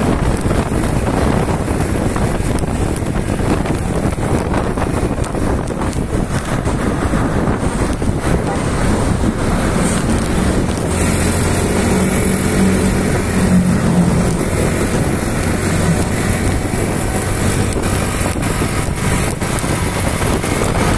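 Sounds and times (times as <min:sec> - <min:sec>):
motorcycle engine humming: 0:00.0 - 0:20.9
road noise: 0:00.0 - 0:20.9
wind rushing over microphone: 0:00.0 - 0:20.9.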